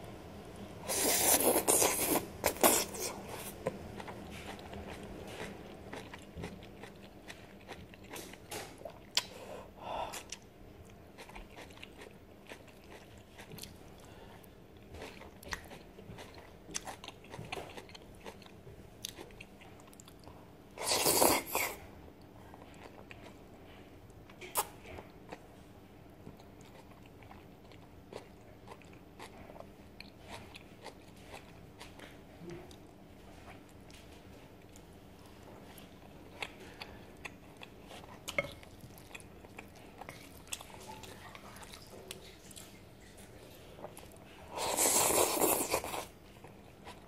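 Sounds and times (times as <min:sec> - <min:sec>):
soft chewing: 0:00.8 - 0:47.0.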